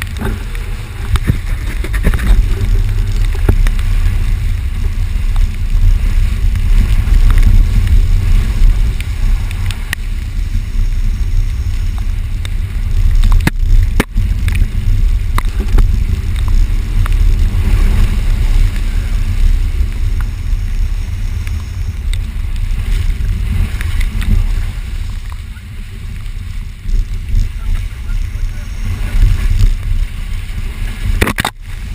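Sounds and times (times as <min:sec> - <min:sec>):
vehicle rumble off-road: 0:00.0 - 0:31.9.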